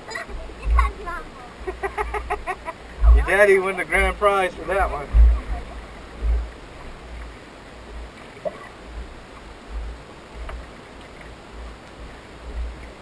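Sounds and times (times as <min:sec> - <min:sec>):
wind buffeting microphone: 0:00.0 - 0:10.7
faint steady hiss: 0:00.0 - 0:13.0.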